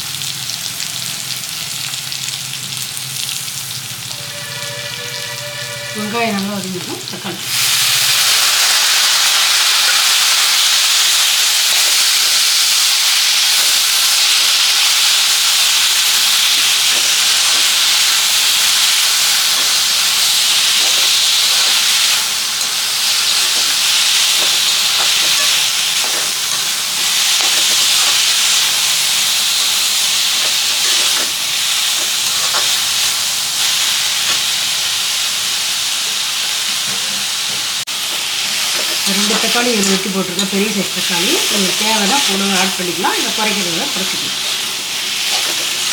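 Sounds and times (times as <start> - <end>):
onions sizzling in hot oil: 0.0 - 45.9.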